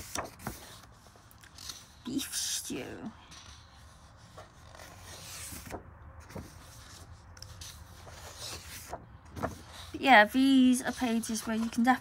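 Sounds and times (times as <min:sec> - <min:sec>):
paper pages rustling: 0:00.0 - 0:02.3, 0:03.2 - 0:12.0.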